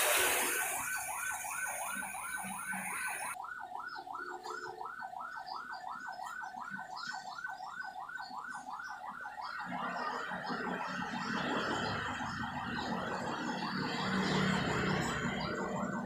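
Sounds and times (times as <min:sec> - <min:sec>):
ambulance siren yelping: 0:00.0 - 0:16.0.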